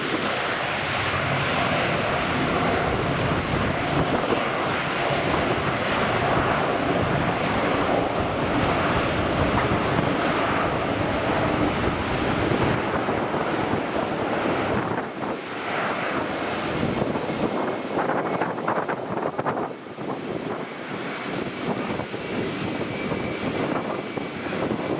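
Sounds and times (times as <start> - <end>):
jet engines roaring: 0.0 - 24.9.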